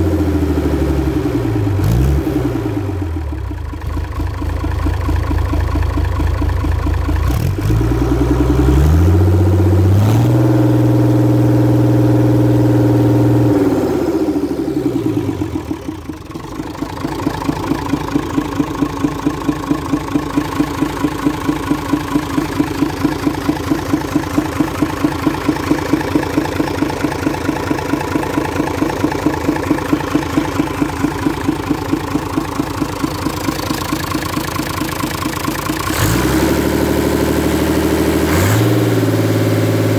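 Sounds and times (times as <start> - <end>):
diesel engine revving and idling: 0.0 - 39.9.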